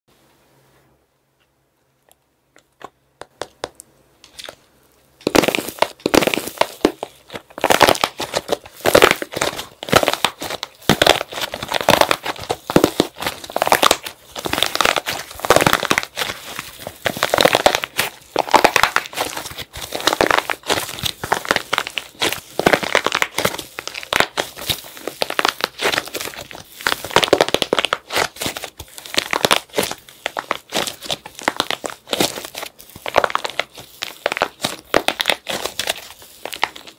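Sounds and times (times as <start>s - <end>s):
clay shell cracking and crunching: 2.6s - 36.9s
clay fragments crackling: 4.3s - 36.9s.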